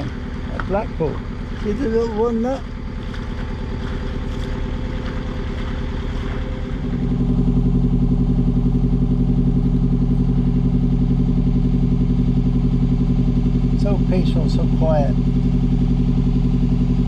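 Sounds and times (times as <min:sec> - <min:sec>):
boat diesel engine chugging: 0:00.0 - 0:17.0.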